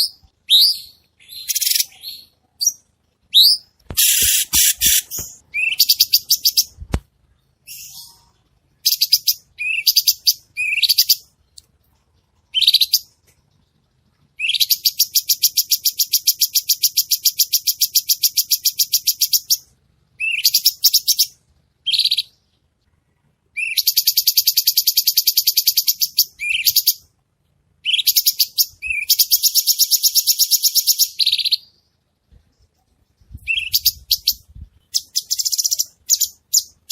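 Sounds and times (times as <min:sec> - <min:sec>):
songbird singing: 0:00.0 - 0:27.1, 0:27.8 - 0:36.9.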